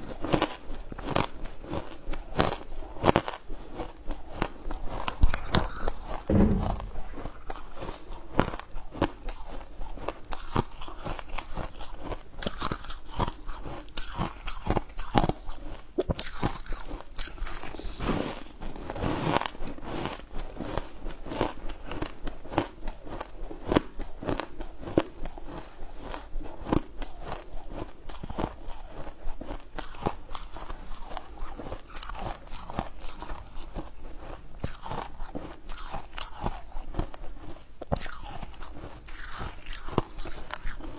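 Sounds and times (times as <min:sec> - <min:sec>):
crunching and chewing food: 0:00.0 - 0:40.9.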